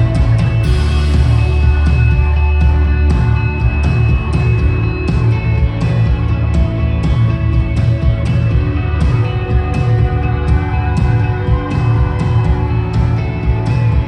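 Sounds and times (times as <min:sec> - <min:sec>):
guitar chords: 0:00.0 - 0:14.0
heavy bass: 0:00.0 - 0:14.0
live rock band: 0:00.0 - 0:14.0
steady drumbeat: 0:00.0 - 0:14.0.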